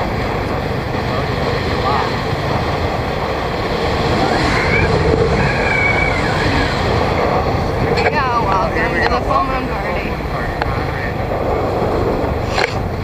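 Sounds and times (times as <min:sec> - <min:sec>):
motorbike engine running: 0:00.0 - 0:13.0
wind rushing over microphone: 0:00.0 - 0:13.0.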